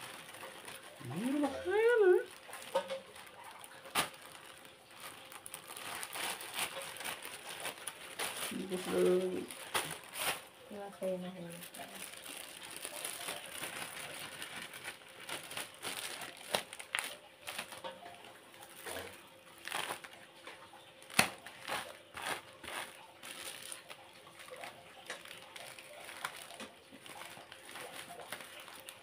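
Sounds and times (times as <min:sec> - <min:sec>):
plastic bags rustling: 0:00.0 - 0:29.0.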